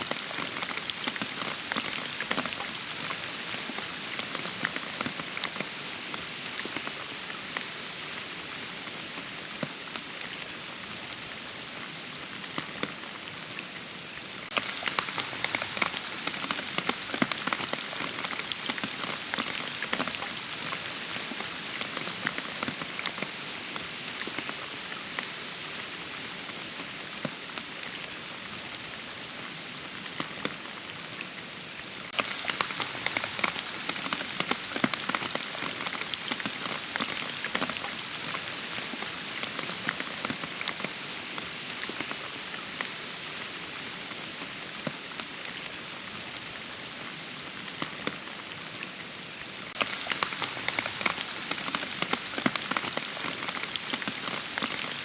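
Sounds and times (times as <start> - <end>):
rain falling: 0.0 - 55.0
raindrops hitting surfaces: 0.0 - 55.0.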